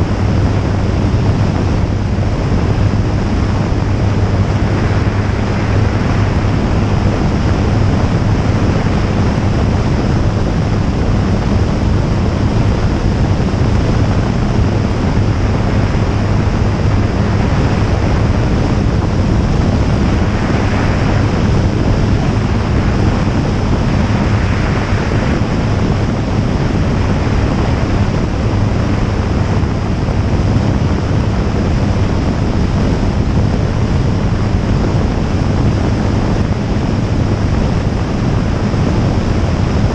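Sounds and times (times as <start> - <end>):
aircraft engine drone: 0.0 - 39.9
wind rush on microphone: 0.0 - 39.9.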